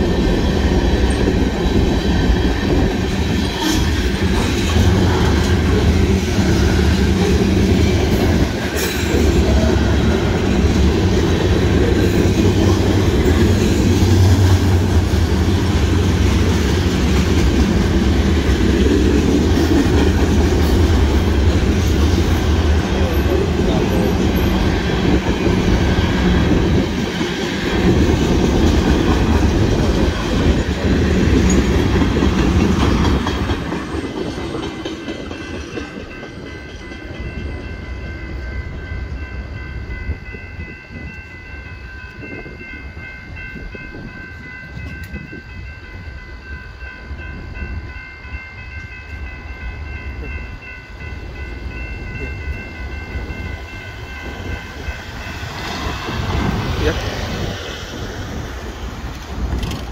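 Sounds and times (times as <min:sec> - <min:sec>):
crossing warning bell ringing: 0:00.0 - 0:59.8
freight train rumbling over rails: 0:00.0 - 0:59.9.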